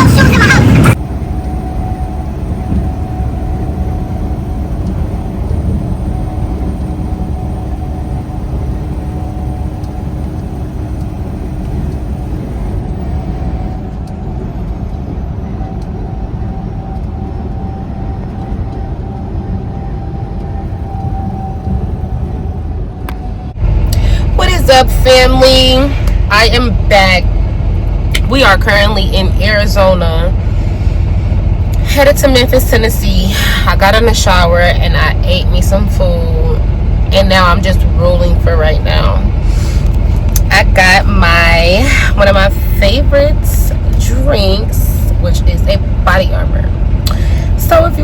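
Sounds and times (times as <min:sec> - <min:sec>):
faint steady whine: 0:00.0 - 0:48.0
truck engine and road rumble: 0:00.0 - 0:48.0.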